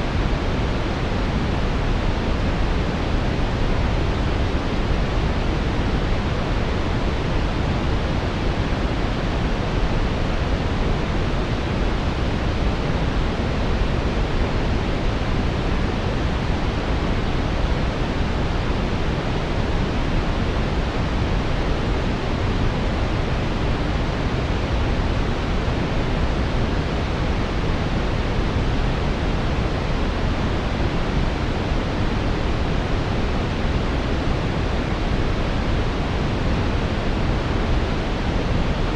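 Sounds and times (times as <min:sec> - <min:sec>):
brown noise hiss: 0:00.0 - 0:38.9.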